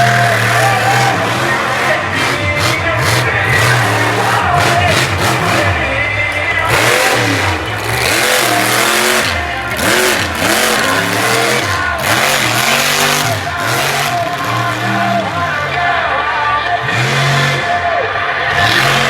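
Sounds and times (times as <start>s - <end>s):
background music: 0.0s - 19.0s
monster truck engine revving: 0.0s - 19.0s.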